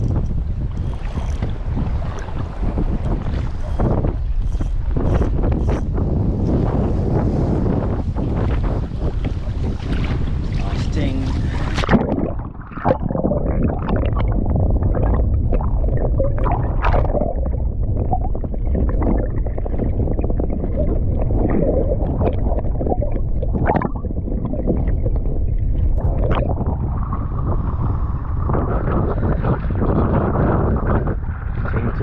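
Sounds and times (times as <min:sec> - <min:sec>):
water splashing against boat: 0:00.0 - 0:32.0
wind buffeting microphone: 0:00.0 - 0:32.0.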